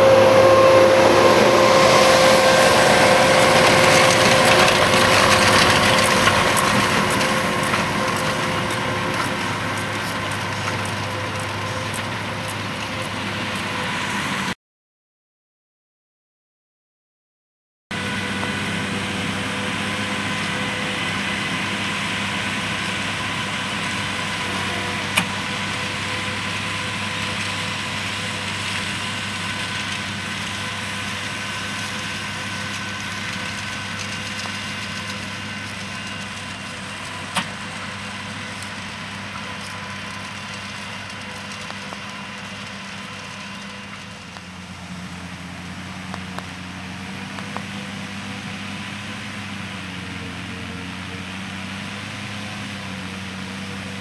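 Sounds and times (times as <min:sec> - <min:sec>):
steady whine: 0:00.0 - 0:14.5, 0:18.0 - 0:54.0
tractor diesel engine running: 0:00.0 - 0:14.6, 0:17.9 - 0:54.0.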